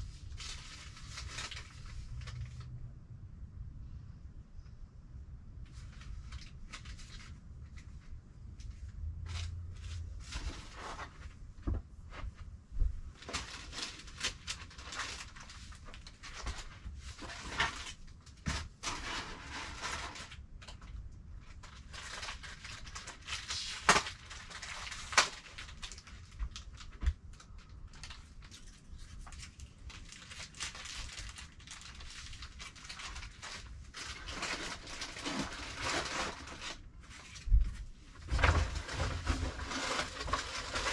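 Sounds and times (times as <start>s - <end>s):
rustling cardboard and plastic: 0.0s - 2.8s, 5.6s - 40.9s.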